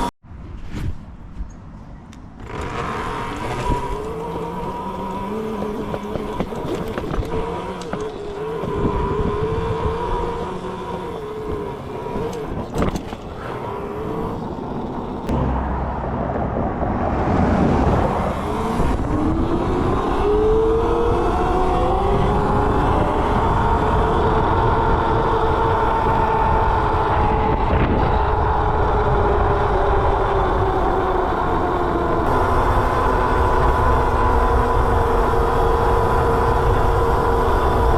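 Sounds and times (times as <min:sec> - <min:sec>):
road and wind noise: 0:00.0 - 0:37.9
electric motor whining: 0:02.4 - 0:15.7, 0:17.8 - 0:37.9.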